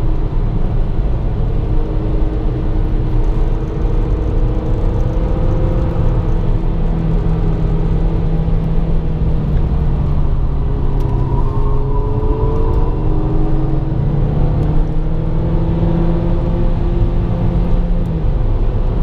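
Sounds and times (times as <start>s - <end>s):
car engine cruising: 0.0s - 19.0s
tyre and road noise: 0.0s - 19.0s.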